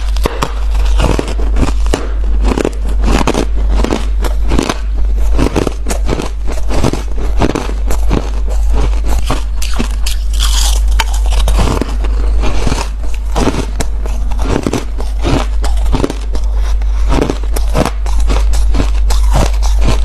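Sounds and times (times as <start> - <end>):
person crunching ice: 0.0 - 20.0.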